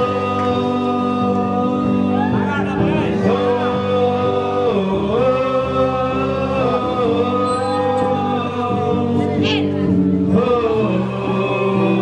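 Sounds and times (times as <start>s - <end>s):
song with singing: 0.0s - 12.0s.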